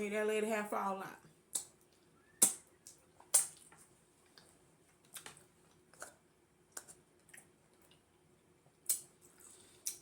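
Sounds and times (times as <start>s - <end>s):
person chewing: 1.5s - 10.0s.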